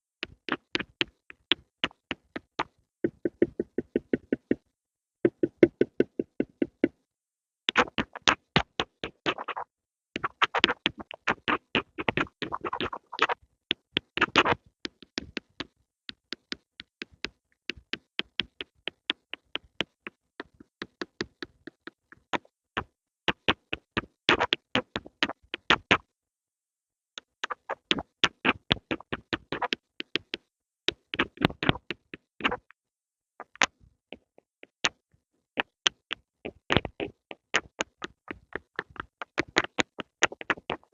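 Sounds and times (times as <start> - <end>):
pencil tapping and clicking: 0.2 - 7.0, 7.7 - 9.5, 10.2 - 26.0, 27.2 - 32.8, 35.6 - 40.9.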